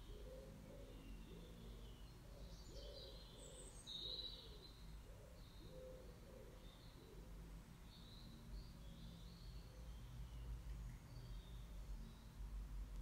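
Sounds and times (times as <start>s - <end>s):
faint bird chirps: 0.0s - 12.5s.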